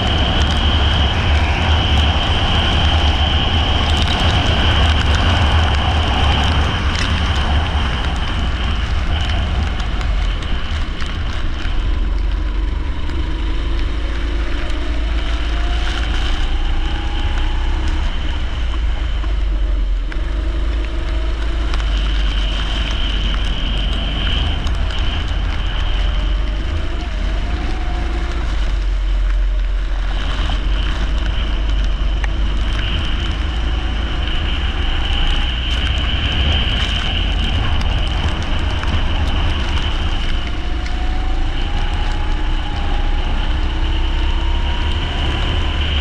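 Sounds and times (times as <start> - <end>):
kart engine running: 0.0 - 46.0.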